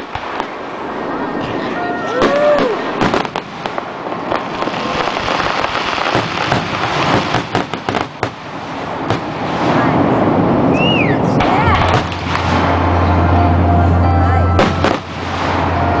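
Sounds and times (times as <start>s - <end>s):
fireworks crackle: 0.0s - 13.1s, 14.6s - 16.0s
fireworks bangs: 0.0s - 13.9s, 14.6s - 16.0s.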